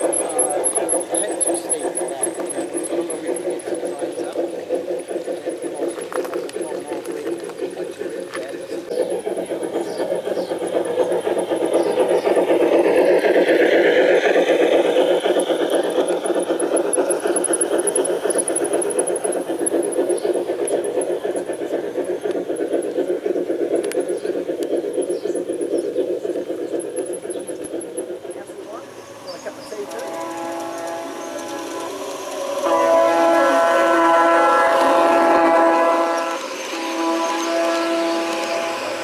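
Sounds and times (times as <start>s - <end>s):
model train motor and wheels rumbling: 0.0s - 39.0s.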